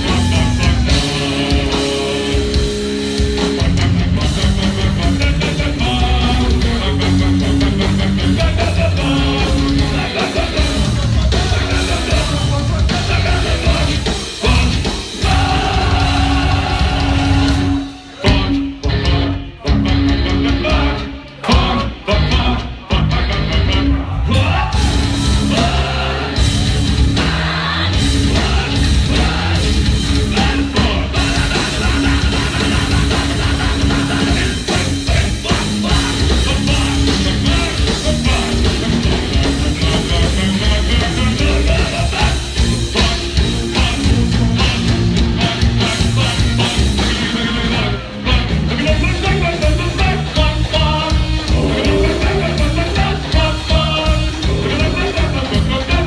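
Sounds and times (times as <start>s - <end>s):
sung and yelled vocals: 0.0s - 18.8s, 19.5s - 56.0s
bass: 0.0s - 56.0s
drums: 0.0s - 56.0s
electric guitars: 0.0s - 56.0s.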